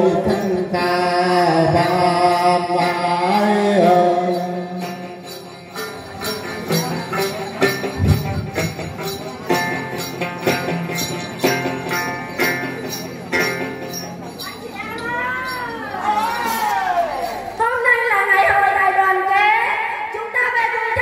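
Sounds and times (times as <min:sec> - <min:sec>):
small bells shaken: 0:00.0 - 0:18.8.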